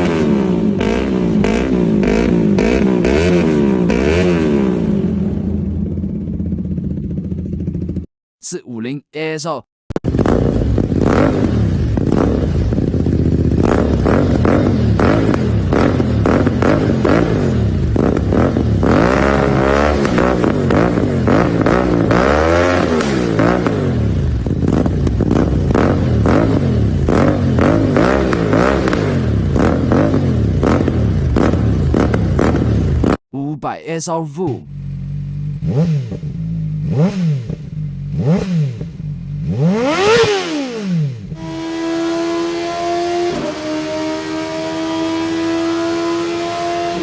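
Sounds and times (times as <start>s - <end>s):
motorcycle engine revving: 0.0s - 8.1s, 9.9s - 33.2s, 34.5s - 47.0s.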